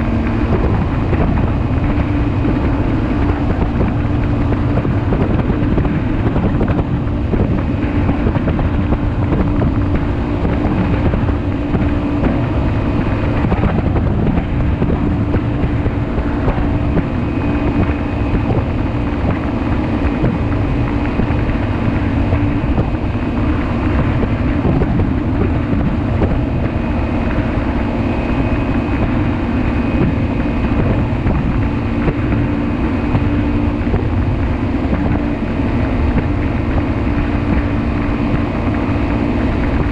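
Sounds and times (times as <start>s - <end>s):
ultralight engine running: 0.0s - 39.9s
wind rushing over microphone: 0.0s - 39.9s.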